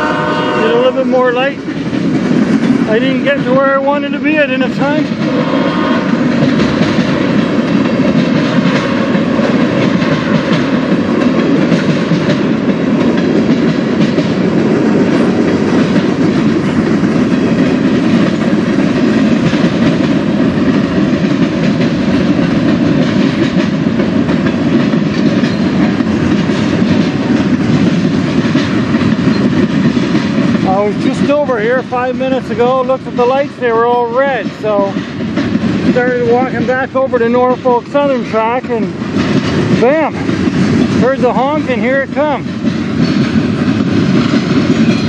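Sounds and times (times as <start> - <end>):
steel wheels running on rails: 0.0 - 45.0.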